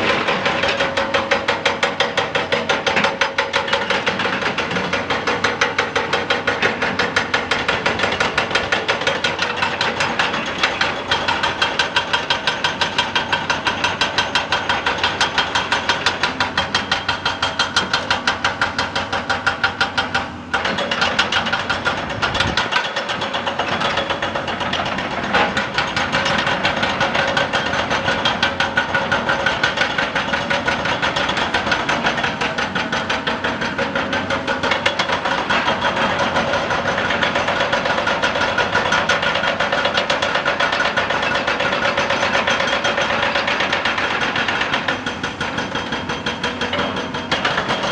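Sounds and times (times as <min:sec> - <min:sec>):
excavator engine running: 0:00.0 - 0:47.9
hydraulic breaker hammering rock: 0:00.0 - 0:47.9.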